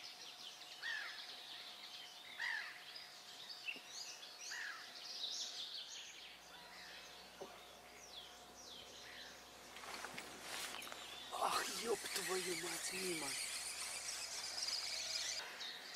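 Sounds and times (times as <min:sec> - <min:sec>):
faint outdoor hiss: 0:00.0 - 0:15.9
small birds chirping: 0:00.0 - 0:15.9.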